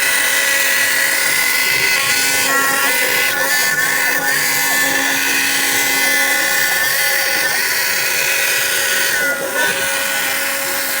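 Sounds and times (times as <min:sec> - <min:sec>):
router spindle whine: 0:00.0 - 0:11.0.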